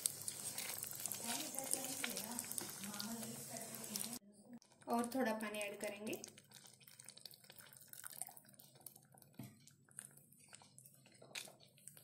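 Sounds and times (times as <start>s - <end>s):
wooden spatula stirring gravy: 0.0s - 12.0s.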